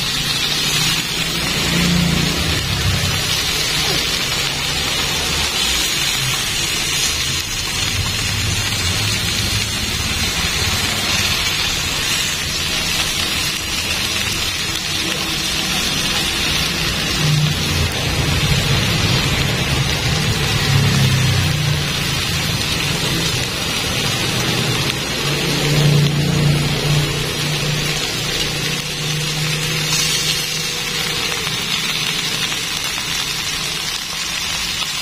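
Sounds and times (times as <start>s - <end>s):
food sizzling on grill pan: 0.0s - 35.0s
low rumble: 0.2s - 32.7s.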